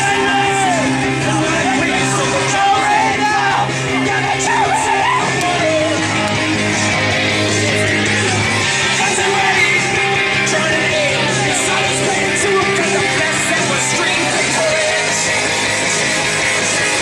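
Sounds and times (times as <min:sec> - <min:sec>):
rock music over speaker: 0:00.0 - 0:17.0.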